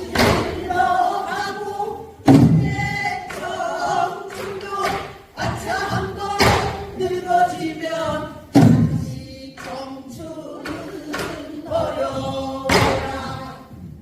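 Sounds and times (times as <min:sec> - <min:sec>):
barrel drum strokes: 0:00.0 - 0:01.6, 0:02.2 - 0:14.0.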